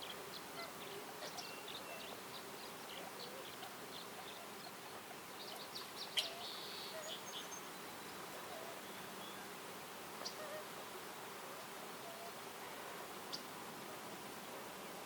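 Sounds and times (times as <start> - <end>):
steady soft hiss: 0.0 - 15.0.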